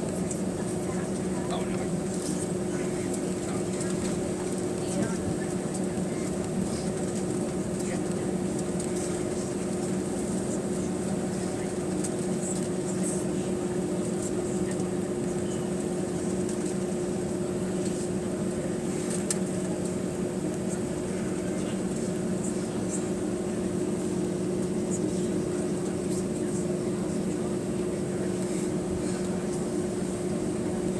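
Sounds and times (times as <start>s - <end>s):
aircraft cabin engine drone: 0.0s - 30.9s.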